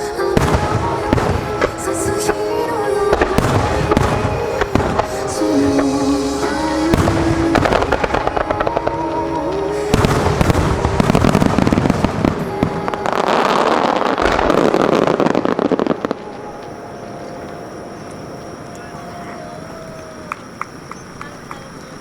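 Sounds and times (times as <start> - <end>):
music: 0.0 - 19.8
fireworks bursting and crackling: 0.0 - 22.0.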